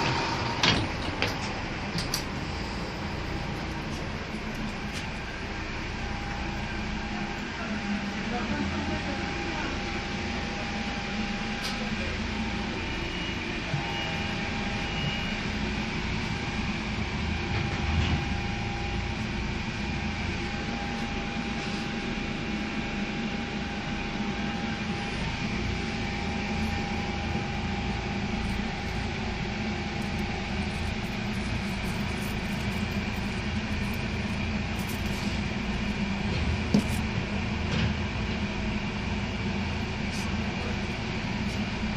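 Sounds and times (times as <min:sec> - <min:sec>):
railcar engine and wheels rumbling: 0:00.0 - 0:41.9
thin steady whine: 0:00.0 - 0:41.9.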